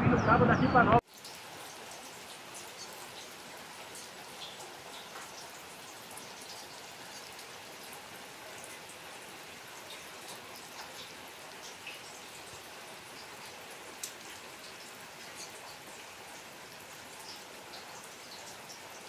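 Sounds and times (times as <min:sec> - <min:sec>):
rain falling on wet ground: 0:01.0 - 0:19.0.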